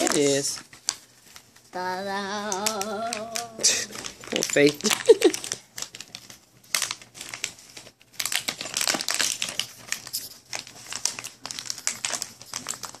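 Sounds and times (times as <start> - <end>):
packaging crinkling: 0.0 - 13.0
dog chewing packaging: 2.4 - 13.0.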